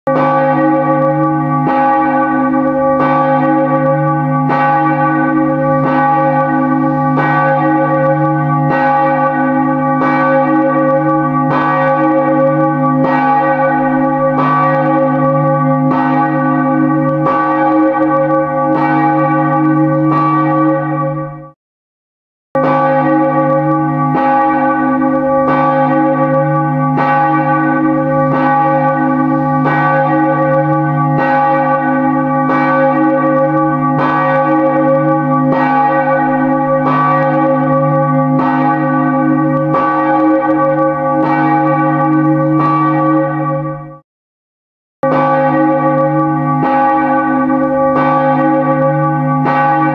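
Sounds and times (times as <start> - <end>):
church bell tolling: 0.1 - 21.6, 22.6 - 44.0, 45.0 - 49.9.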